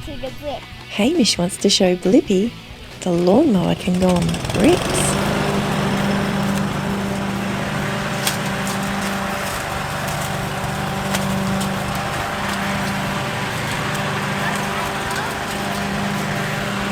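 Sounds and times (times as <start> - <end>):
lawn mower running: 0.9 - 16.9.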